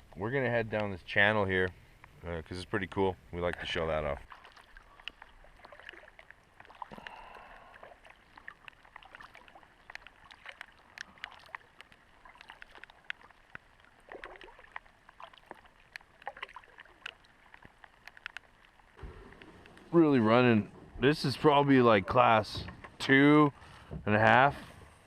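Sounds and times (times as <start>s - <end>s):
water splashing around kayak: 0.0s - 25.0s.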